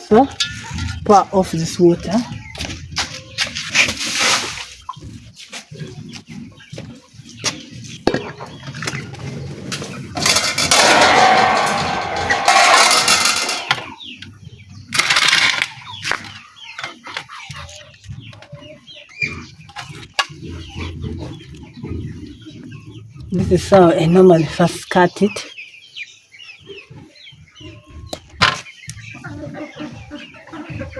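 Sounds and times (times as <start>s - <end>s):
chickens clucking: 0.0s - 13.4s, 14.0s - 30.9s.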